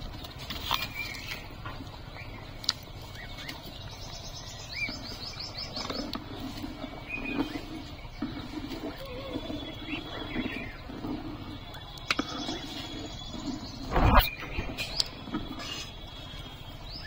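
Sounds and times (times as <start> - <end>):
low background noise: 0.0 - 17.0
small birds chirping: 0.0 - 17.0.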